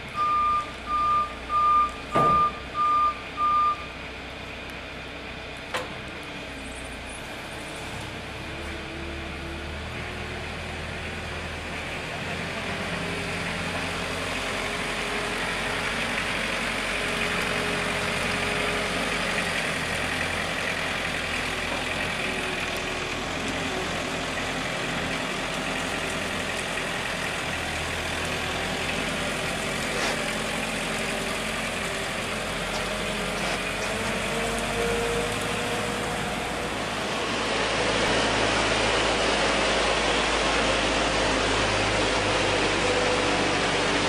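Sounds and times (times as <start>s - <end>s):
forklift engine running: 0.0s - 44.0s.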